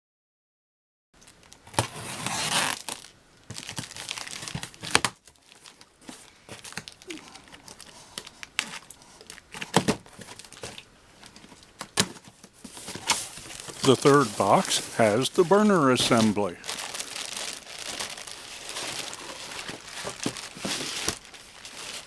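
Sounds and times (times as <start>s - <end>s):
packing material crinkling: 1.2s - 22.0s.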